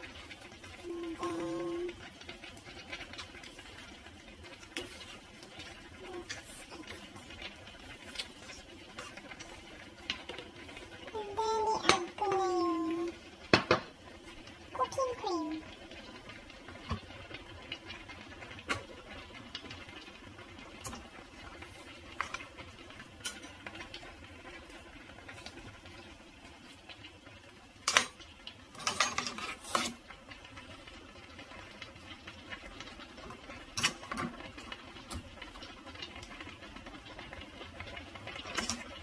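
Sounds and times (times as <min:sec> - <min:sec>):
sauce simmering with bubbles popping: 0:00.0 - 0:39.0.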